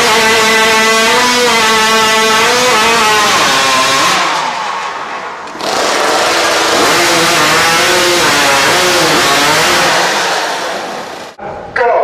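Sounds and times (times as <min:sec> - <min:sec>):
chainsaw cutting timber: 0:00.0 - 0:04.6, 0:05.5 - 0:11.4.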